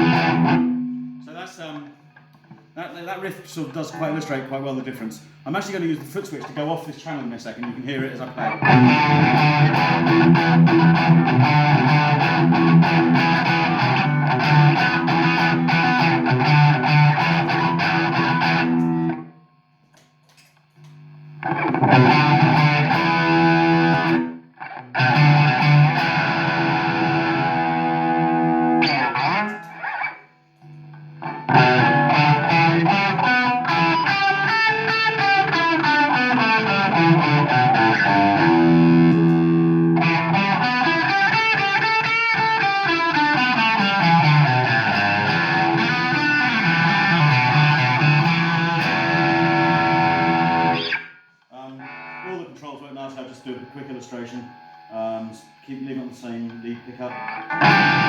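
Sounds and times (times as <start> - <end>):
distorted electric guitar riffs: 0.0 - 58.0.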